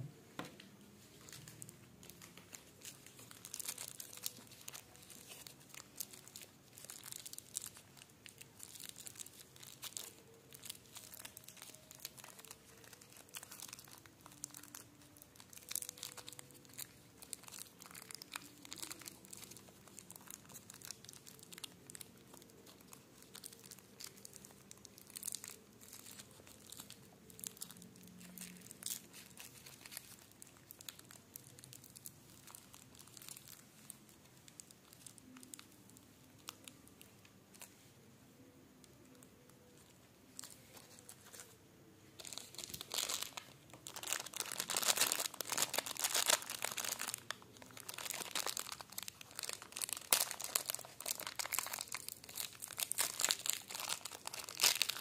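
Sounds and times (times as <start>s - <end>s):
wrapper crinkling: 0.4s - 37.8s, 38.8s - 55.0s.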